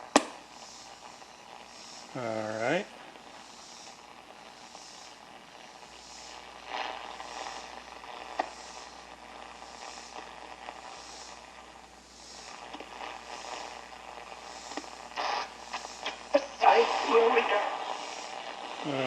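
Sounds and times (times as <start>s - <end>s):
radio static hiss and crackle: 0.0s - 19.0s.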